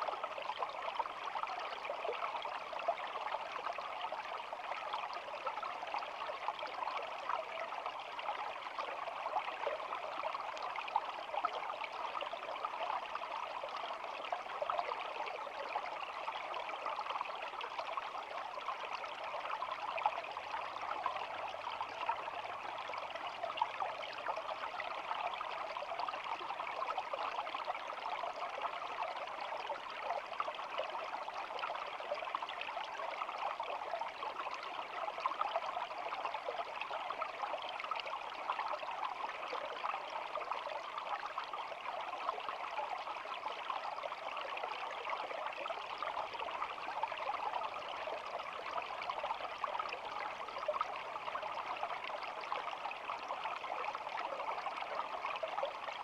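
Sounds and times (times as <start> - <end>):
small stream babbling: 0.0 - 56.0.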